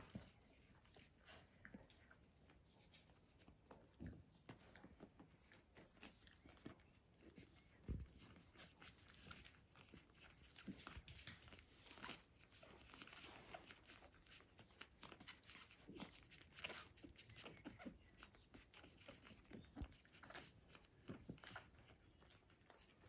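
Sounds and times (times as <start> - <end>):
puppies suckling wet clicking: 0.0 - 23.0.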